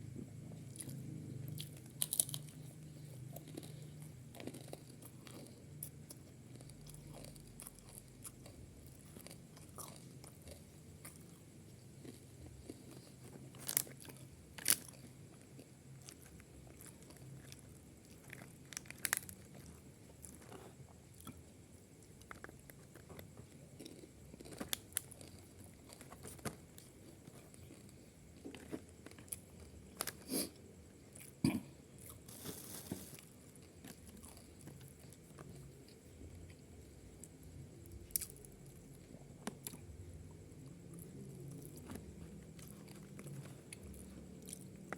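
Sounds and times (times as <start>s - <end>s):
person chewing crunchy food: 0.1s - 44.9s.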